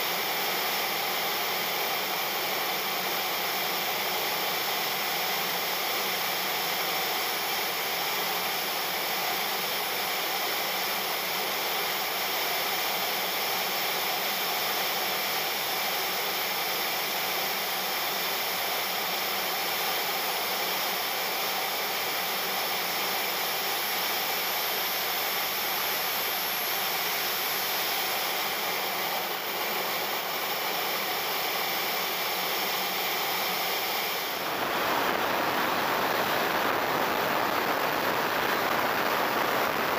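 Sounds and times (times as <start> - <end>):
jet turbine whine: 0.0 - 39.9.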